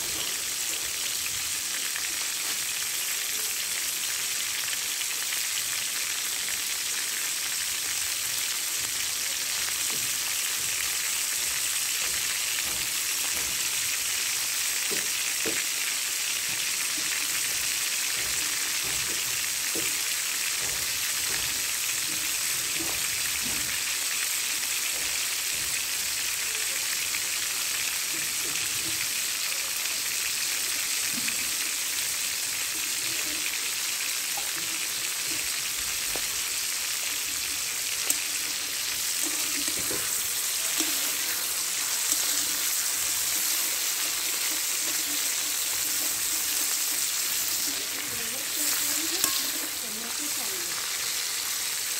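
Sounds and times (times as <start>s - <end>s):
chicken frying in oil: 0.0s - 51.9s.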